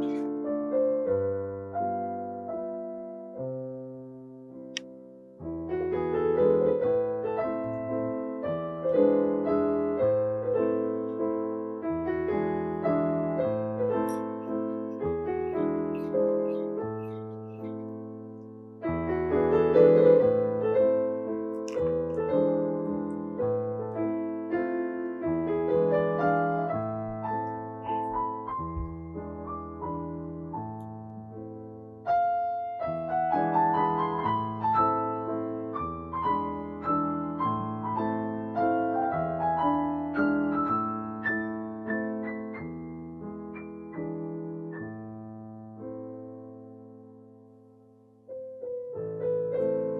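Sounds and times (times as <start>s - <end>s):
gentle piano melody: 0.0s - 49.9s.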